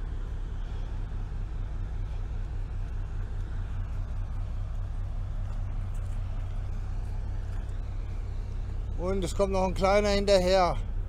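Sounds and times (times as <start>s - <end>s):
ship engine droning: 0.0s - 11.0s.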